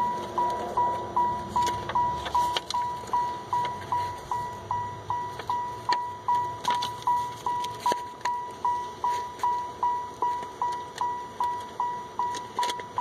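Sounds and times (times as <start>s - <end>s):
vehicle warning chime dinging: 0.0s - 13.0s.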